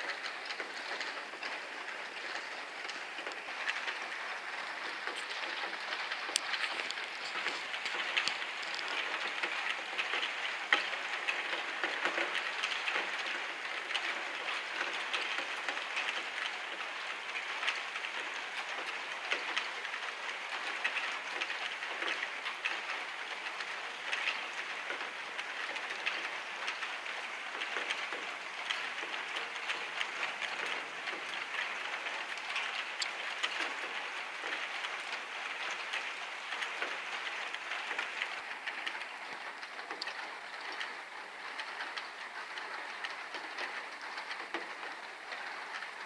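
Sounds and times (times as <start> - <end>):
heavy rain on hard surface: 0.0 - 46.0.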